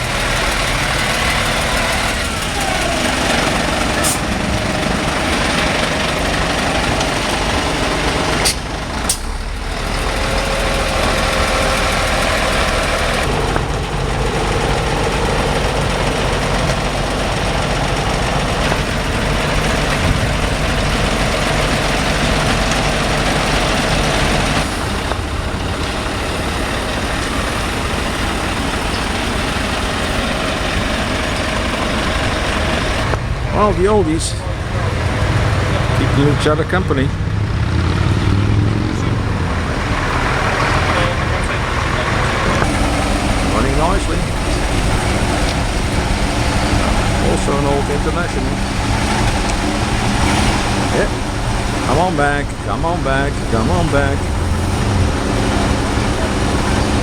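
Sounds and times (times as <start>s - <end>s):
truck diesel engines idling: 0.0s - 57.0s.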